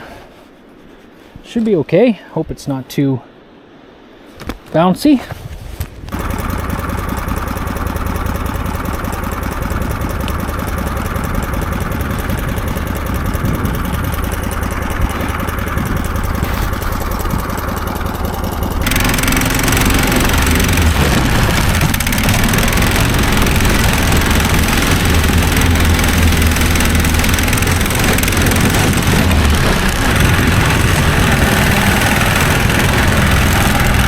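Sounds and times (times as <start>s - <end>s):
engine idling: 6.1s - 34.0s.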